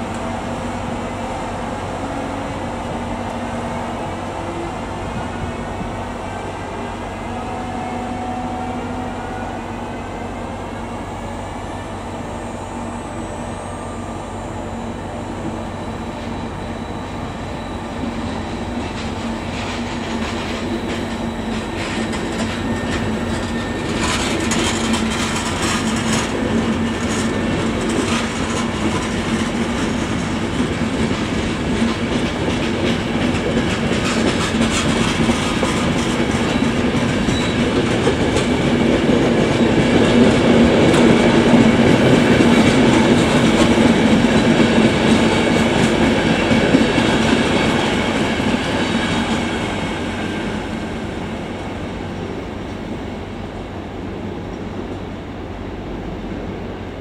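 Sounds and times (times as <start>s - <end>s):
train on rails: 0.0s - 57.0s.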